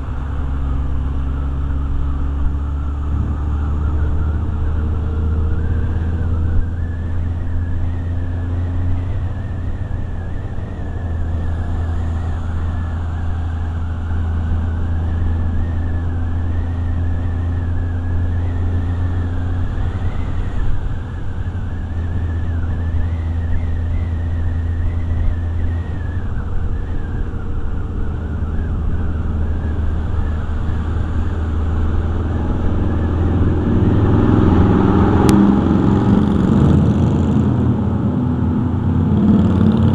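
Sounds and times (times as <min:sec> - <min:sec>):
high wavering whistle: 0:00.0 - 0:36.3
motorcycle engine drone: 0:00.0 - 0:39.9.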